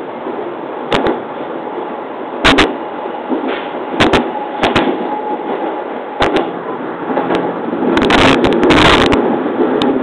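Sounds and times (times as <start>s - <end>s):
train rolling rush: 0.0s - 10.0s.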